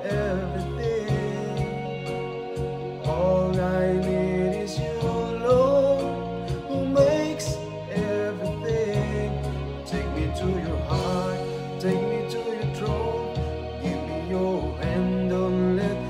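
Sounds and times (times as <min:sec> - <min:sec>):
backing track of bass and chords: 0:00.0 - 0:16.0
man singing: 0:00.0 - 0:16.0.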